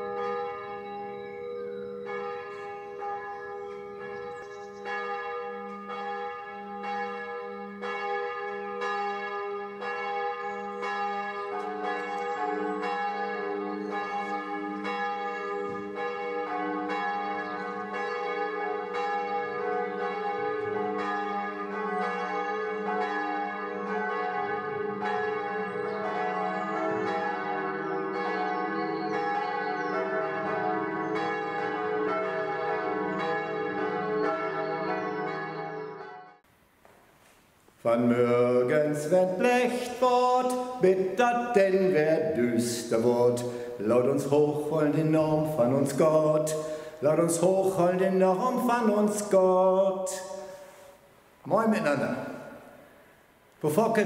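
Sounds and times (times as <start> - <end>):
church bells ringing: 0.0 - 36.4, 37.8 - 50.9.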